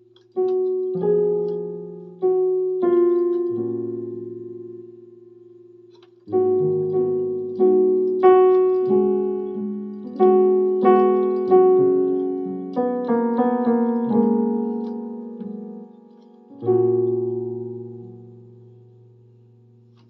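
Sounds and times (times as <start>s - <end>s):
electronic keyboard melody: 0.0s - 20.0s.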